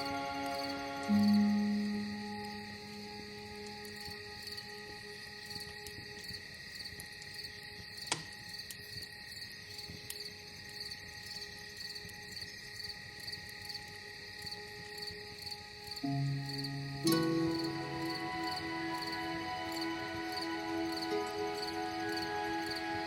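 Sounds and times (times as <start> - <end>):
crackling campfire: 0.0 - 23.0
crickets chirping: 0.0 - 23.0.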